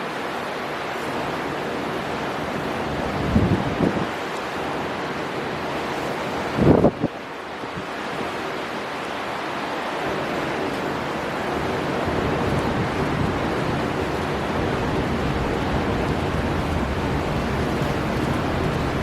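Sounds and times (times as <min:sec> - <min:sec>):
sea surf: 0:00.0 - 0:19.0
storm wind: 0:00.0 - 0:19.0.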